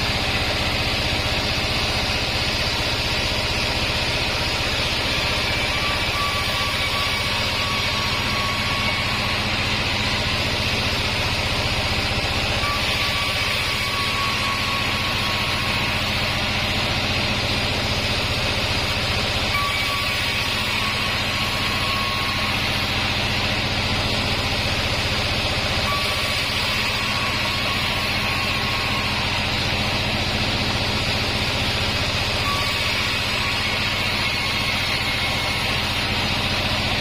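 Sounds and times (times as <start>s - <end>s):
sawmill machine hum and hiss: 0.0s - 37.0s.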